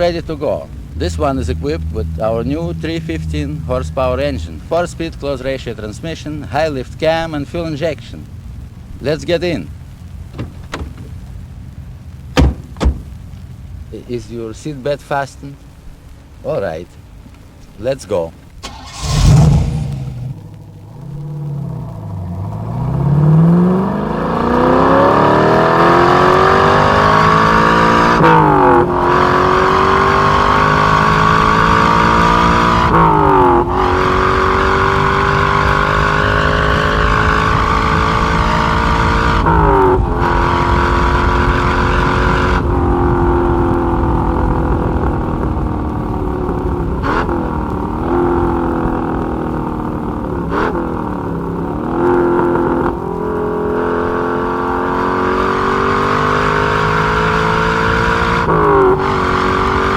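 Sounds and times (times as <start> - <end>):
car engine accelerating: 0.0 - 14.0, 18.6 - 59.9.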